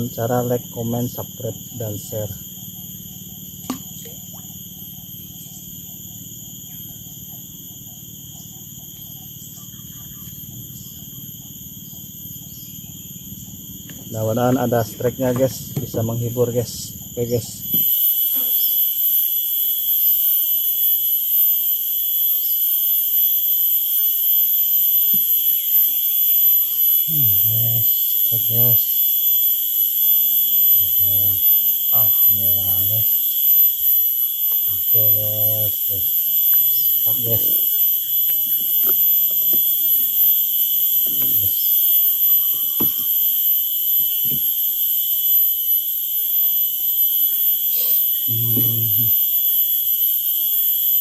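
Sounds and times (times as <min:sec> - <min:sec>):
shrill insect chorus: 0:00.0 - 0:51.0.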